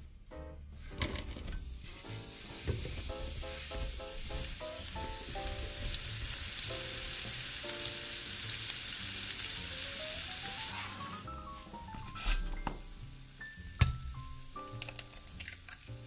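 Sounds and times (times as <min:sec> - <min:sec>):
light background music: 0:00.0 - 0:16.0
onions sizzling in hot oil: 0:01.6 - 0:16.0.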